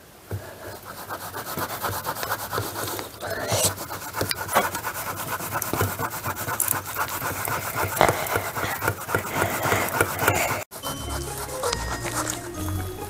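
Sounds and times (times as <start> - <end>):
mushrooms grated on metal grater: 0.8 - 12.6.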